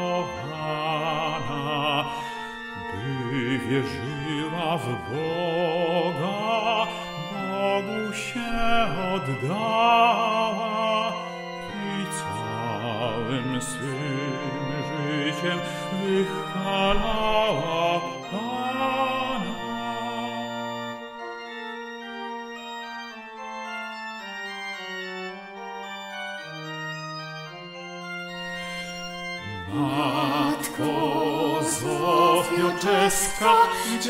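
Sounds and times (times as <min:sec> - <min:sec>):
organ playing hymn chords: 0:00.0 - 0:34.0.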